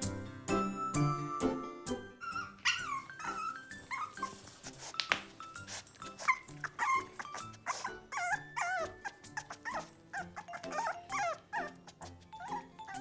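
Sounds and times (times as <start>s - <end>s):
background music: 0.0s - 13.0s
puppy whining: 2.1s - 13.0s.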